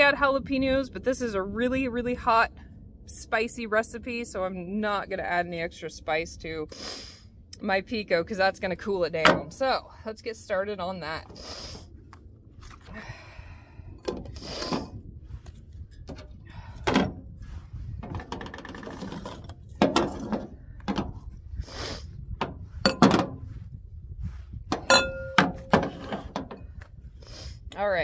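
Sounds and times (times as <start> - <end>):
low wind rumble: 0.0 - 28.0.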